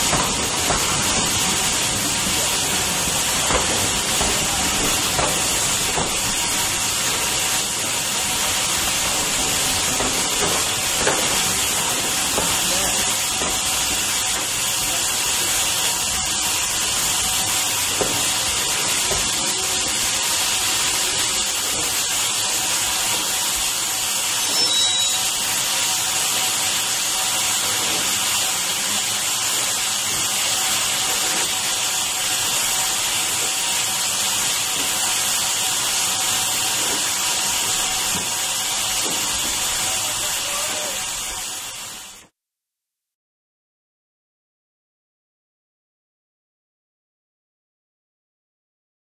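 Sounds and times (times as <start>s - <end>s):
steam hissing: 0.0s - 42.3s.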